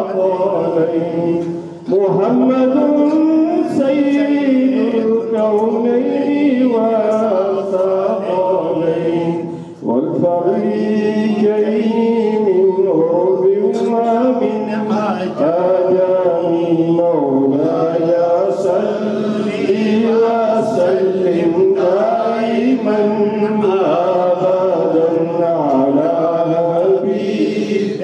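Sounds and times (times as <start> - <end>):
man chanting through microphone: 0.0 - 28.0.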